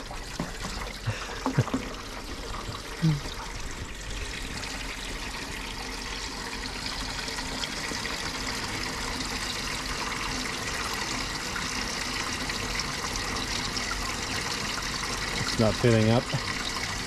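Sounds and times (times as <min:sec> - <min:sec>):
water trickling into metal bowl: 0:00.0 - 0:17.0.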